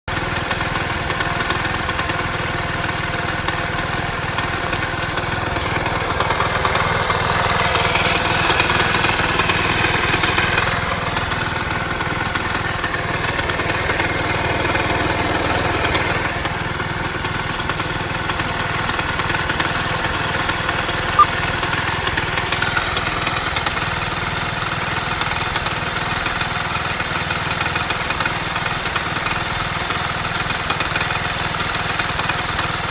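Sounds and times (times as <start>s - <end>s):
engine idling with knock: 0.1s - 32.9s.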